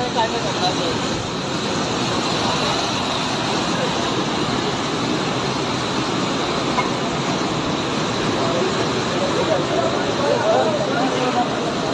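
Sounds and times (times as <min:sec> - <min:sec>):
floodwater rushing: 0:00.0 - 0:11.9.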